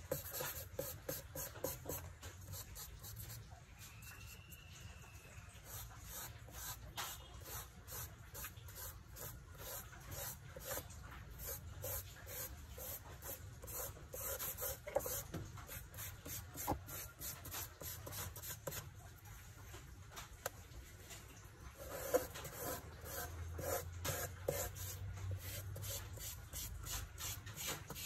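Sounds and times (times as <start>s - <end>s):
charcoal scratching on paper: 0.0s - 4.4s, 5.6s - 18.8s, 21.8s - 28.0s.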